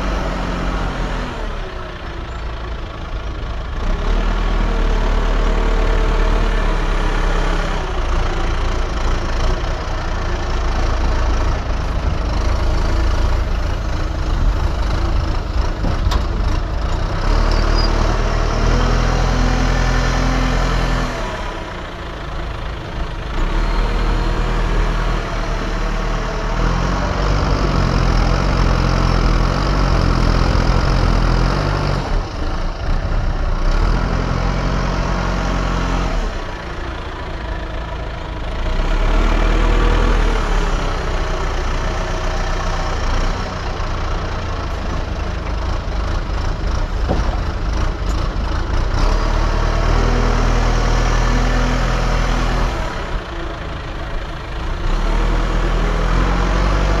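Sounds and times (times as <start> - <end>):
digging machine diesel engine: 0.0 - 57.0.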